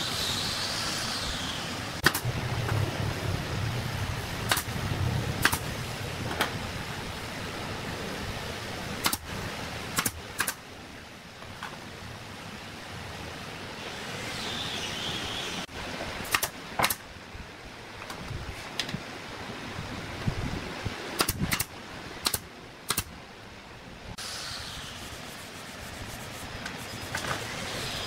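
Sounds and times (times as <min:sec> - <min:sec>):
steady workshop hiss: 0:00.0 - 0:28.0.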